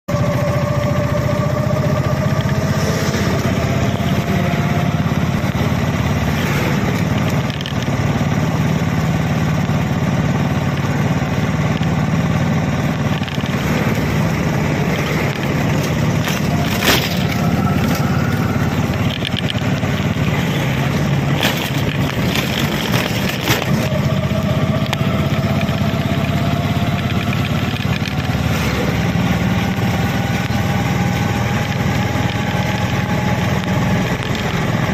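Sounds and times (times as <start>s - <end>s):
vehicle engine and road drone: 0.1s - 34.9s.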